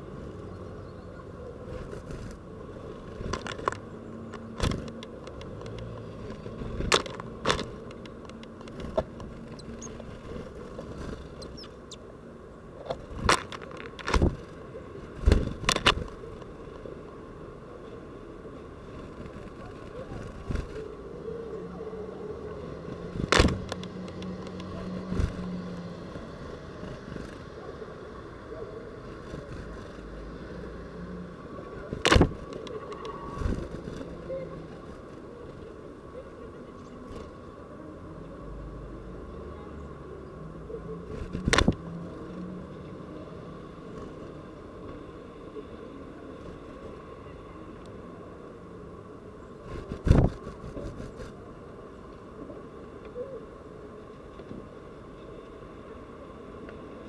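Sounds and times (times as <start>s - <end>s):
city traffic hum: 0.0s - 57.0s.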